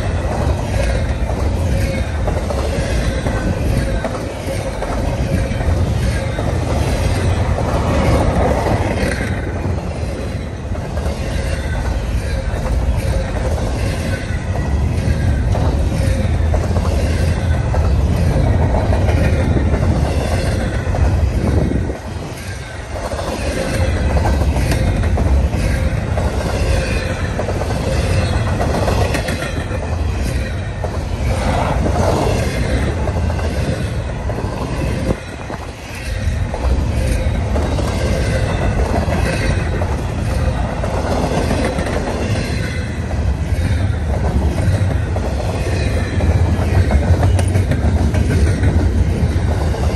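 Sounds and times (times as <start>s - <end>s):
rumble of wheels on rail: 0.0s - 49.9s.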